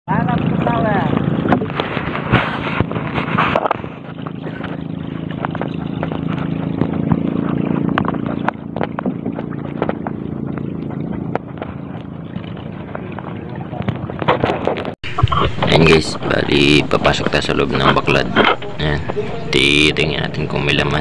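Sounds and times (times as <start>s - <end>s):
small boat engine running: 0.1s - 21.0s.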